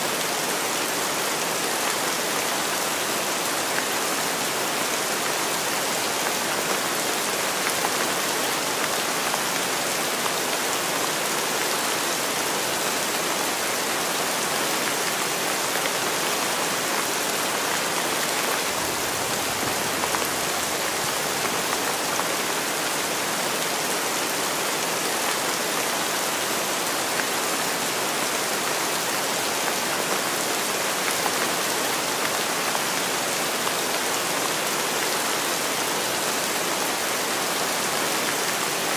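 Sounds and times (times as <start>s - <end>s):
deeper rush of rain: 0.2s - 38.9s.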